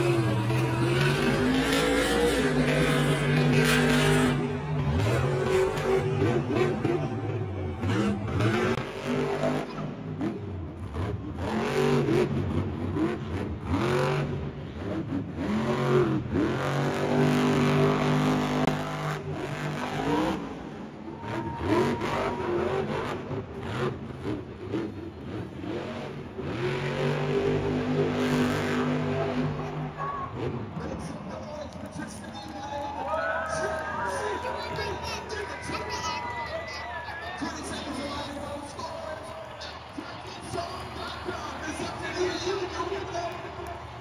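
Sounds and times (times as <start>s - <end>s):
truck engine revving hard: 0.0s - 32.4s, 33.5s - 44.0s.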